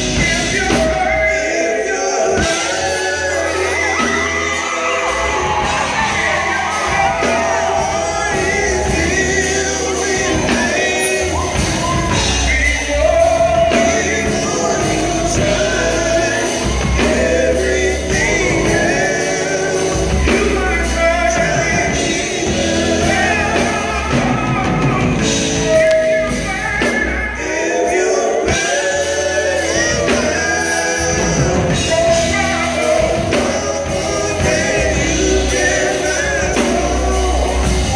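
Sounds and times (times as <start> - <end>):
drums: 0.0 - 37.9
gospel vocal group singing: 0.0 - 37.9
guitar: 0.0 - 37.9
keyboard: 0.0 - 37.9.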